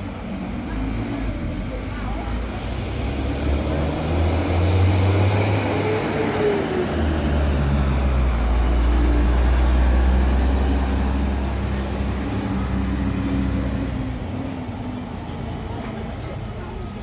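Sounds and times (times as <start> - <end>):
diesel bus engine droning: 0.0 - 17.0.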